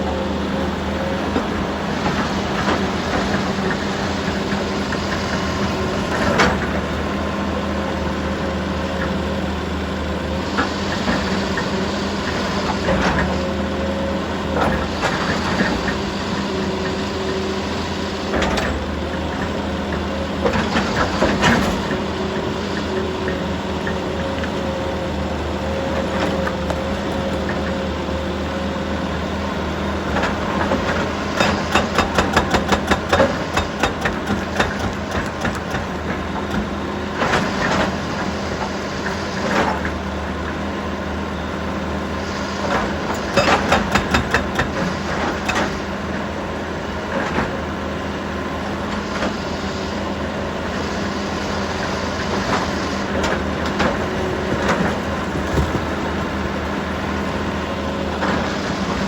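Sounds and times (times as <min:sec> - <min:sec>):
construction machinery engine hum: 0:00.0 - 0:59.0.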